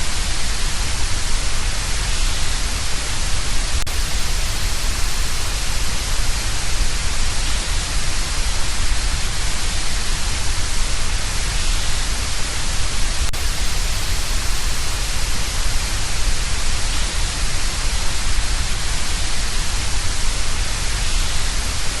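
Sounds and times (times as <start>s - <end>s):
static-like hiss: 0.0s - 22.0s.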